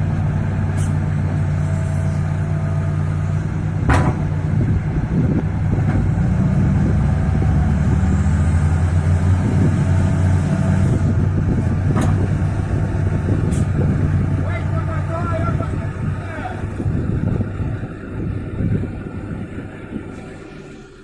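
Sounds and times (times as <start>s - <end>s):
heavy truck engine running: 0.0s - 21.0s.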